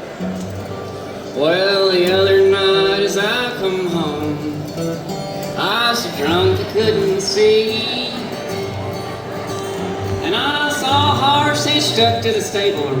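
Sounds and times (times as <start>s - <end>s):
plucked acoustic guitar: 0.0s - 13.0s
person singing: 1.4s - 9.1s, 9.9s - 13.0s.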